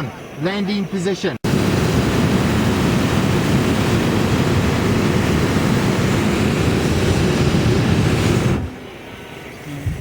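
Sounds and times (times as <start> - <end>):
propane burner blast: 1.4 - 10.0.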